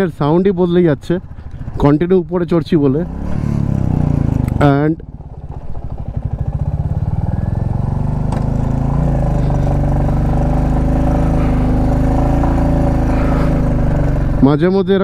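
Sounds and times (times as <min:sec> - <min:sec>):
motorcycle engine revving: 0:02.7 - 0:15.0.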